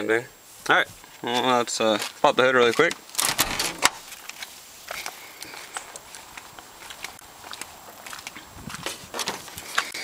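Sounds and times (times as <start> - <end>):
light footsteps: 0.6 - 10.0.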